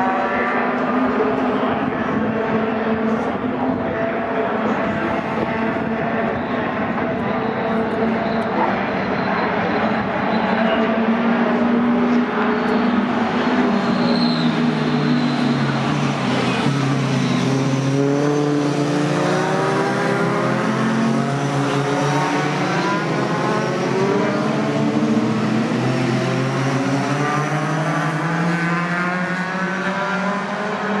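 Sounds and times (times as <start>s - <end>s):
racing truck engines: 0.0s - 31.0s.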